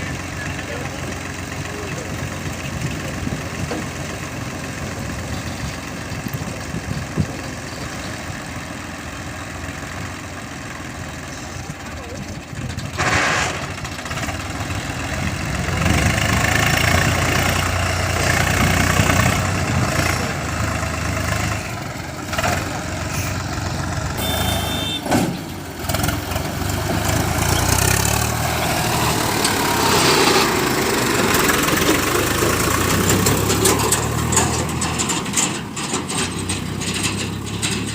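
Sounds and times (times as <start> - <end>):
diesel engines running: 0.0 - 37.9.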